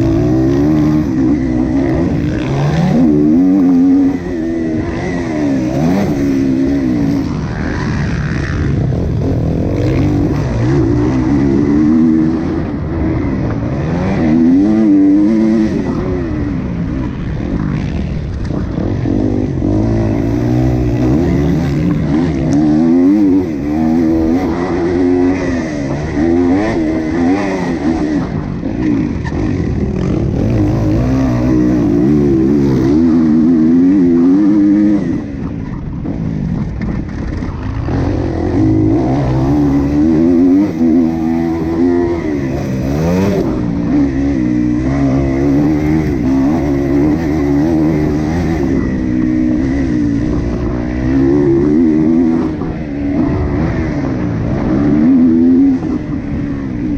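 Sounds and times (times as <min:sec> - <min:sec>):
motorbike engine revving: 0:00.0 - 0:56.9.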